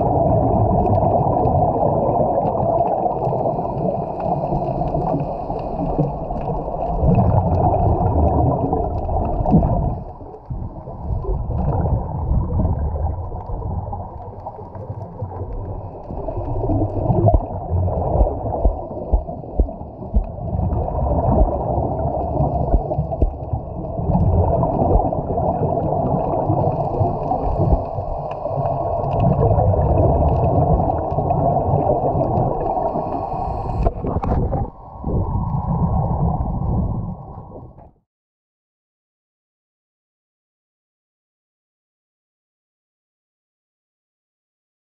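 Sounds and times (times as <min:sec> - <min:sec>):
underwater rumbling and gurgling: 0:00.0 - 0:38.0.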